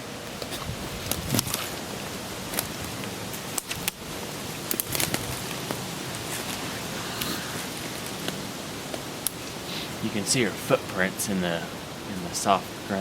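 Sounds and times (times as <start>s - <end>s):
steady hiss: 0.0s - 13.0s
footsteps crunching through leaves: 0.4s - 12.6s.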